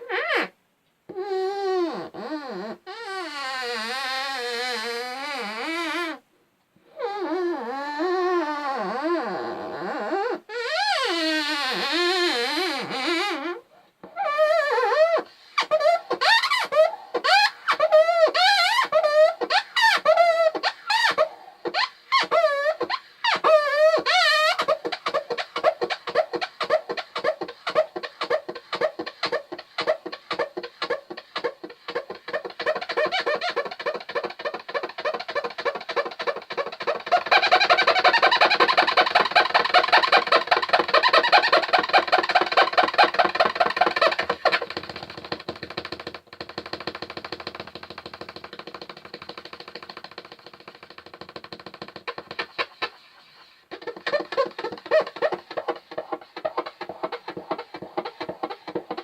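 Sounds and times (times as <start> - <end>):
fingers squeaking on wood: 0.0 - 6.2, 6.9 - 59.0.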